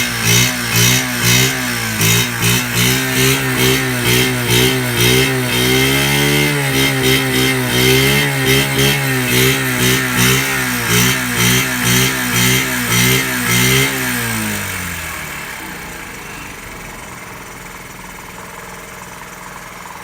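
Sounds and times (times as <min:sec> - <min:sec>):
small motorcycle engine revving: 0:00.0 - 0:20.0.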